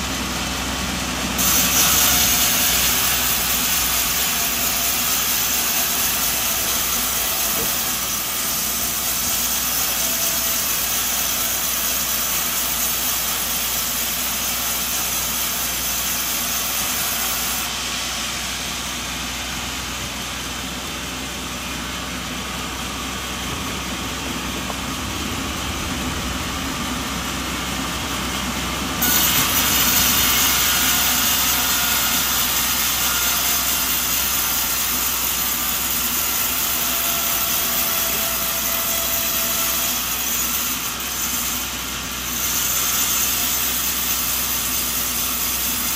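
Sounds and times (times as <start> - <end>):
powered saw cutting timber: 0.0 - 45.9
sawmill machinery running: 0.0 - 45.9.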